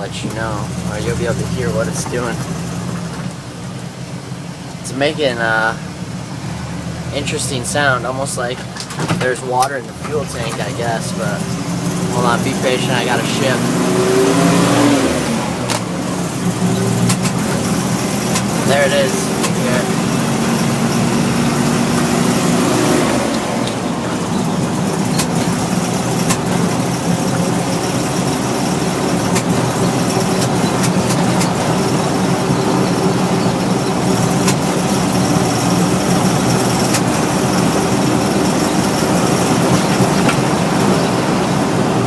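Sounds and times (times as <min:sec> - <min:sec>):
engine humming while driving: 0:00.0 - 0:42.0.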